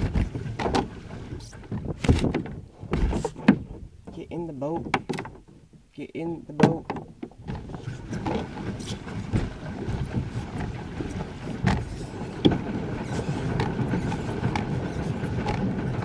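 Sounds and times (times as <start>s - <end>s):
wind rumbling on microphone: 0.0s - 6.0s, 6.6s - 16.0s
water sloshing against hull: 0.0s - 16.0s.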